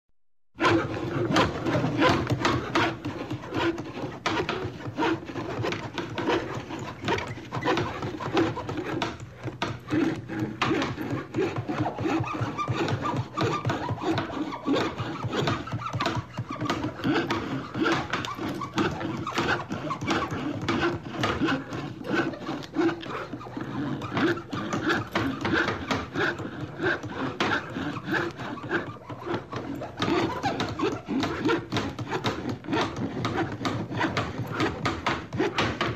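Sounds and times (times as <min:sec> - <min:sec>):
hammering on wood: 0:00.6 - 0:35.9
hand saw strokes: 0:00.6 - 0:35.9.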